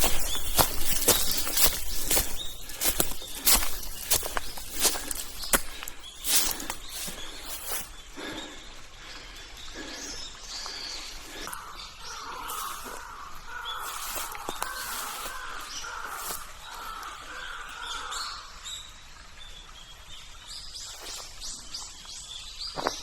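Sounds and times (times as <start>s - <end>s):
footsteps on a trail: 0.0s - 18.1s, 20.8s - 23.0s
harsh caw-like bird calls: 0.0s - 18.9s.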